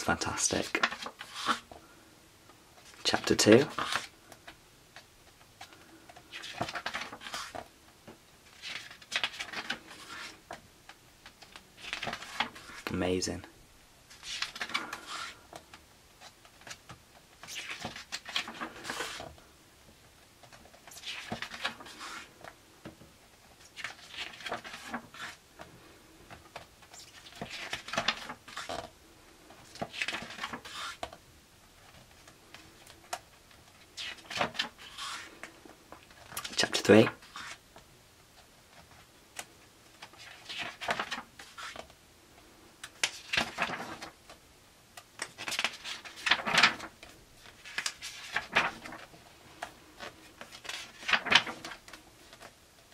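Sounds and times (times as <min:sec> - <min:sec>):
book pages rustling and flapping: 0:00.0 - 0:02.0, 0:02.7 - 0:13.4, 0:14.1 - 0:52.9.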